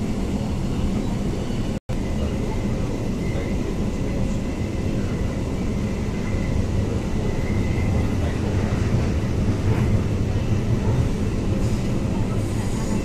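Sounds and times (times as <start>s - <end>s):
train rumbling in motion: 0.0s - 13.0s.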